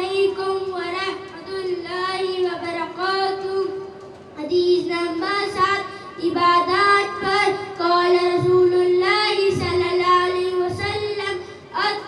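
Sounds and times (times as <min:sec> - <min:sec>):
boy chanting into a microphone: 0:00.0 - 0:12.0.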